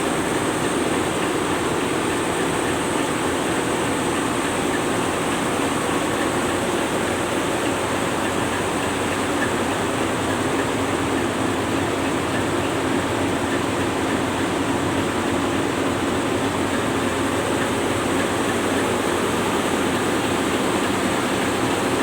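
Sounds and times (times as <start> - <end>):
boat engines rumbling: 0.0 - 22.0.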